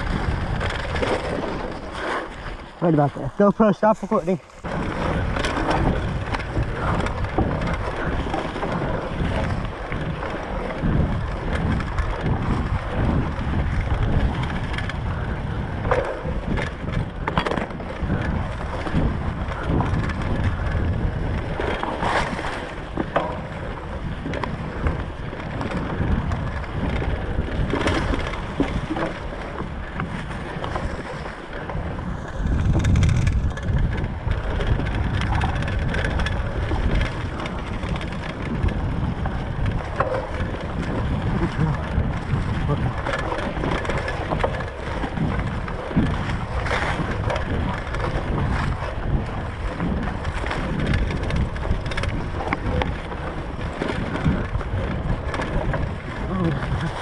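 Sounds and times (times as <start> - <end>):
bike knocking and rattling: 0.0 - 57.0
bike tyre rumble on dirt: 0.0 - 57.0
wind buffeting microphone: 0.0 - 57.0.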